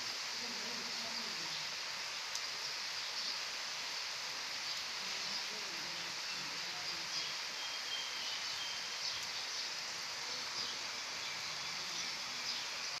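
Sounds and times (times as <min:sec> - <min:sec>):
high hiss: 0:00.0 - 0:13.0.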